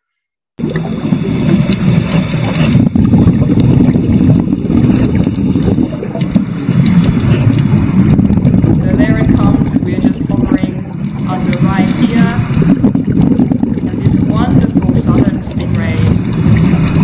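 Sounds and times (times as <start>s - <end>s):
muffled underwater rumble: 0.6s - 17.0s.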